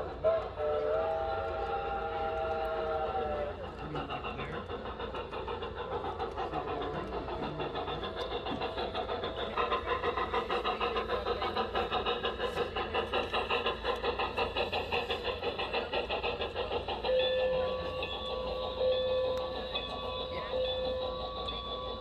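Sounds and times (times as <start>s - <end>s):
model steam locomotive chuffing: 0.0s - 22.0s.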